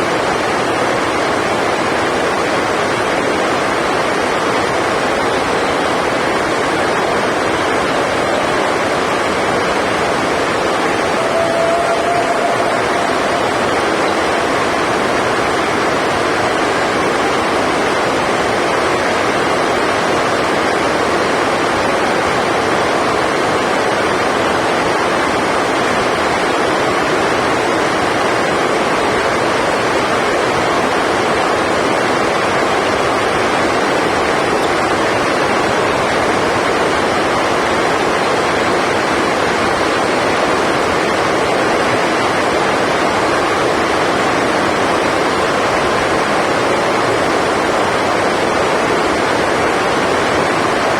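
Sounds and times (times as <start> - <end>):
heavy rain on a roof: 0.0 - 50.9.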